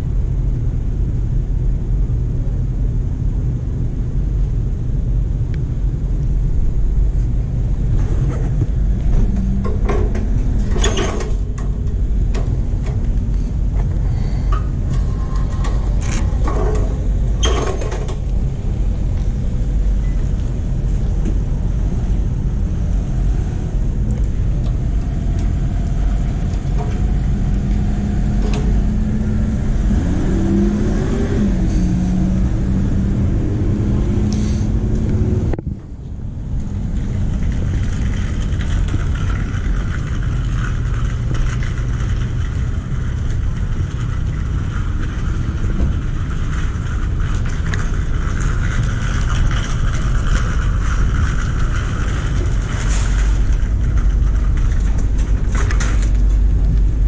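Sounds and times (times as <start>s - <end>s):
steady low rumble: 0.0s - 57.0s
car engine hum: 2.0s - 57.0s.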